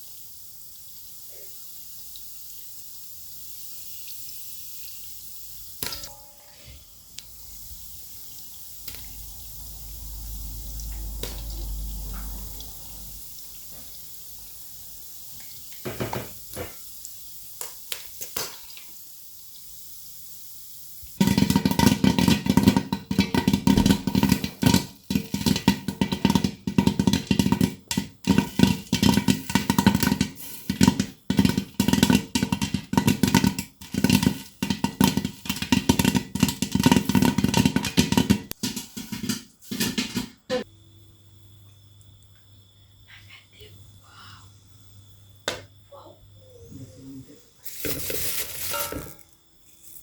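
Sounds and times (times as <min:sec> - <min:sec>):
low hiss: 0:00.0 - 0:21.2, 0:28.2 - 0:35.7, 0:38.7 - 0:50.0.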